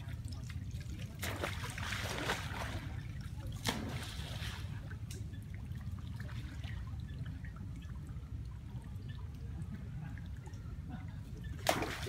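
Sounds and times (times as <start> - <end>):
water splashing: 0.0 - 10.5, 11.4 - 12.0
low steady rumble: 0.0 - 12.0
water trickling and dripping: 0.0 - 12.0.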